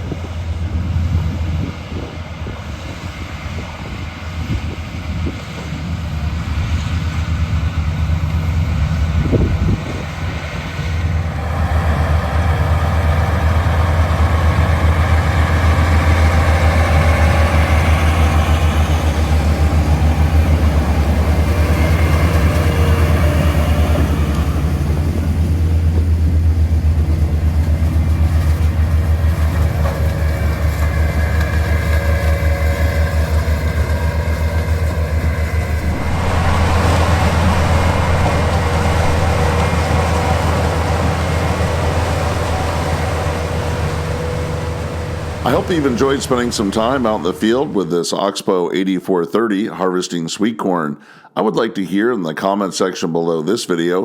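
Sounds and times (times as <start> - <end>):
diesel harvesting machinery running: 0.0 - 48.1.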